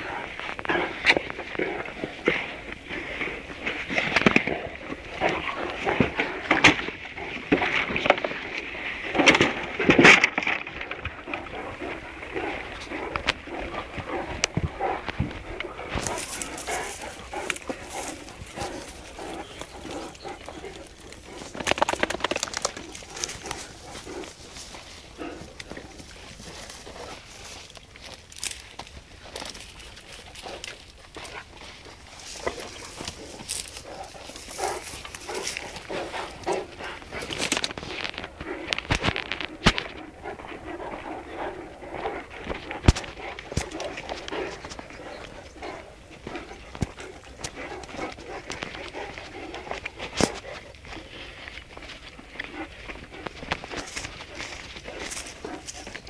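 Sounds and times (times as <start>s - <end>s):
dogs chewing grass: 0.0s - 56.0s
dogs sniffing: 0.0s - 56.0s
footsteps on stony dirt path: 0.0s - 56.0s
rapid crackling: 9.1s - 56.0s.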